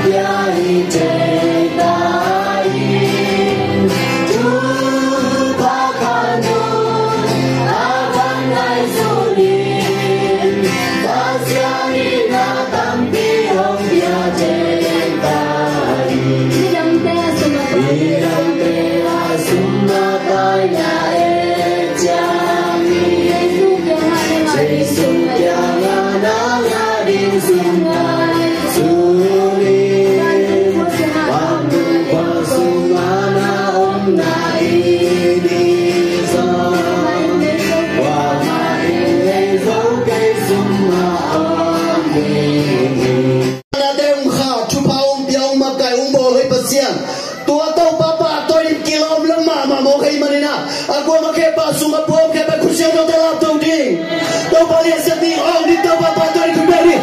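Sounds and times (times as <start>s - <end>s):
voices singing gospel song: 0.0s - 43.6s, 46.7s - 57.0s.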